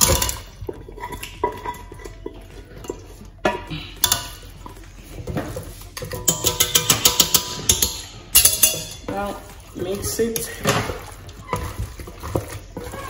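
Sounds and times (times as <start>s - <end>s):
wet scraping and stirring: 0.0s - 13.0s.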